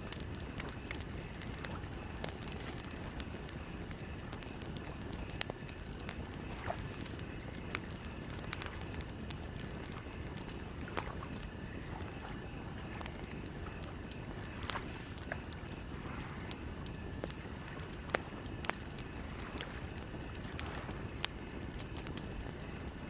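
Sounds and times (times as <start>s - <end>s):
campfire crackling and popping: 0.0s - 23.0s
low rumble of wind: 0.0s - 23.0s.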